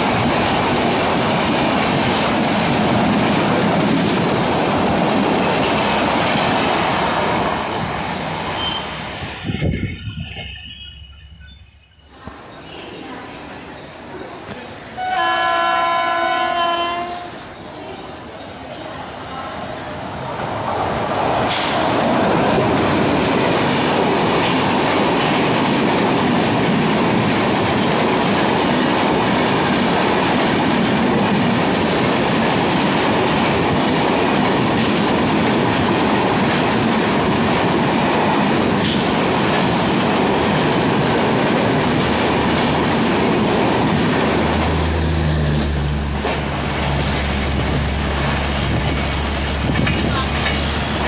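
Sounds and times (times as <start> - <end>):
train wheels rushing on rail: 0.0 - 51.0.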